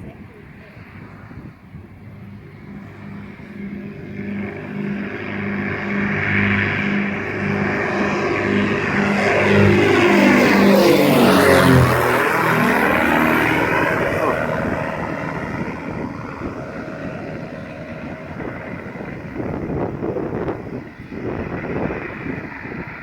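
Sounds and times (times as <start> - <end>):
propeller plane passing overhead: 0.0 - 23.0.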